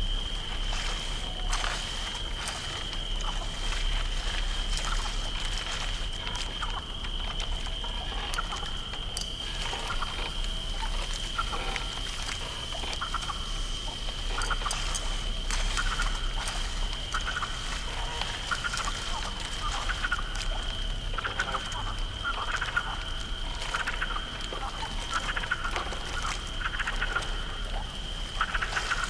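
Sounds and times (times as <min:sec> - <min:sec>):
high insect drone: 0:00.0 - 0:29.0
frog-like animal calls: 0:00.7 - 0:29.0.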